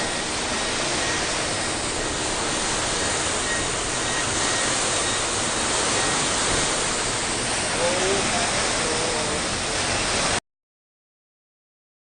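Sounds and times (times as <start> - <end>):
water pouring and splashing: 0.0 - 10.4.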